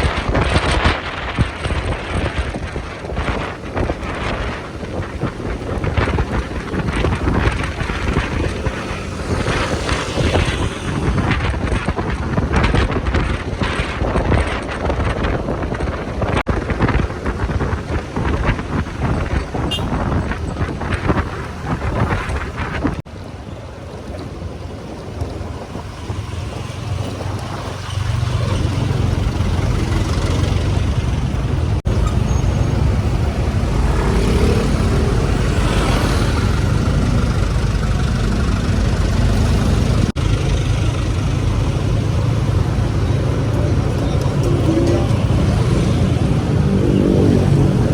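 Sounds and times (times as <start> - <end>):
motorcycle engine running: 0.0 - 23.0, 24.8 - 47.9
wind buffeting microphone: 0.0 - 47.9.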